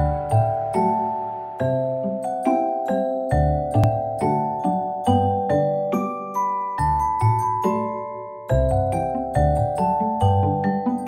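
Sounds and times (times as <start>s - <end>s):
bell-like mallet percussion melody: 0.0s - 11.0s.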